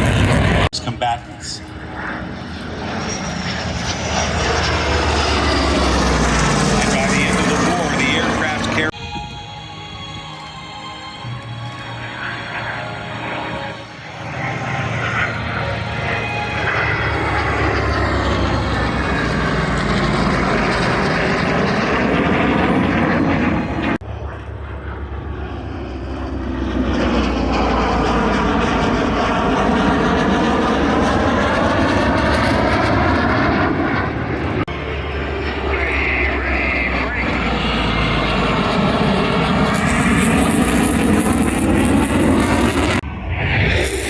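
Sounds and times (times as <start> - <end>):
jet aircraft passing overhead: 0.0 - 44.0.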